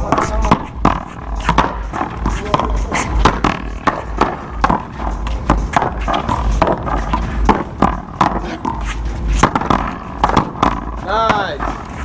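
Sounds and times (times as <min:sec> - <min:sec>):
ball hitting wall: 0:00.0 - 0:12.0
low pulsing rumble: 0:00.0 - 0:12.0
paddles smacking rubber ball: 0:00.0 - 0:12.0.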